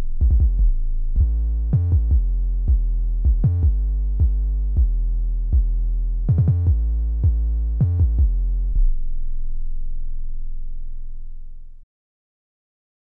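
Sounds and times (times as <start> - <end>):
deep synthesized bass line: 0.0 - 11.8.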